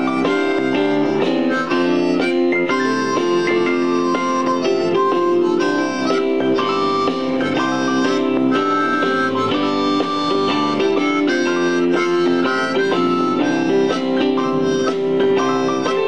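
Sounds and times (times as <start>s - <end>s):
country backing track with guitar: 0.0s - 16.0s
harmonica playing: 0.0s - 16.0s.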